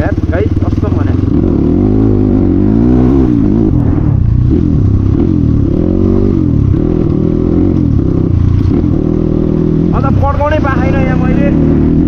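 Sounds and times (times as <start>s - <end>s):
loud motorcycle engine revving: 0.0s - 12.0s.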